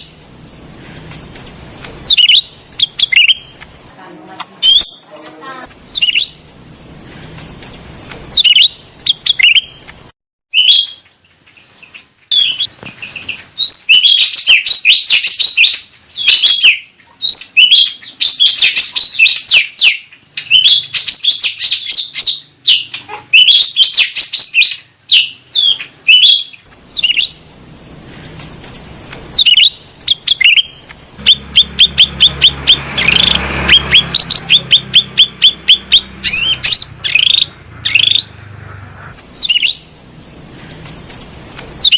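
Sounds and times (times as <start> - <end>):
bird chirping twitter: 2.0 - 3.6, 4.6 - 5.1, 5.9 - 7.4, 8.3 - 9.9, 10.5 - 28.4, 29.3 - 38.3, 39.3 - 40.8.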